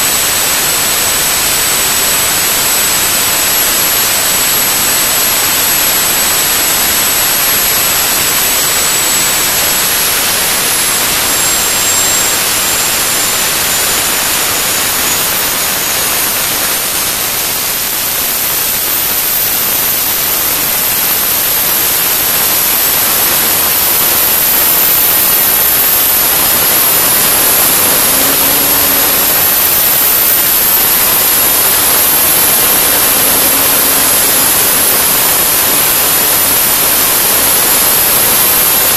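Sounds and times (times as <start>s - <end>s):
gas turbine rushing noise: 0.0s - 38.9s
high-pitched turbine whine: 0.0s - 38.9s.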